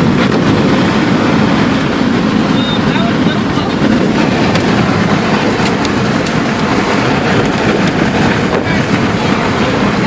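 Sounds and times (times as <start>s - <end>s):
rain: 0.0s - 10.0s
road noise: 0.0s - 10.0s
storm wind: 0.0s - 10.0s.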